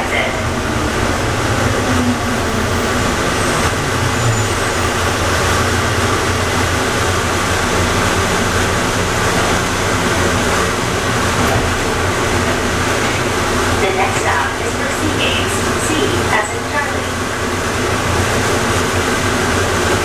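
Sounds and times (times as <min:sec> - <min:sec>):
constant low hum: 0:00.0 - 0:20.0
people mover train rolling: 0:00.0 - 0:20.0.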